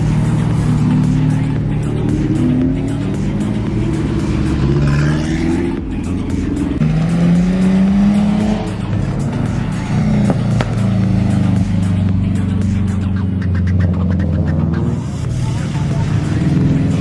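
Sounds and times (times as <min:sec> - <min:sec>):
car engines accelerating past: 0:00.0 - 0:17.0.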